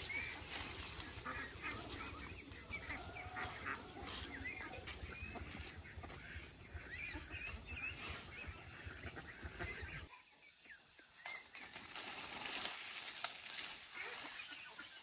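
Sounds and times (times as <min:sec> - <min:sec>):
birds chirping: 0:00.0 - 0:11.9, 0:13.0 - 0:15.0
high insect drone: 0:00.0 - 0:15.0.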